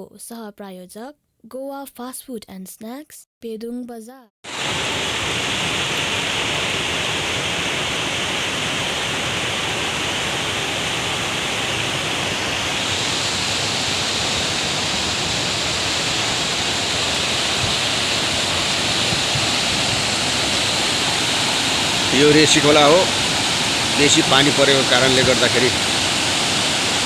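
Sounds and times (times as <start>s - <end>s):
river rushing in flood: 4.5s - 27.0s.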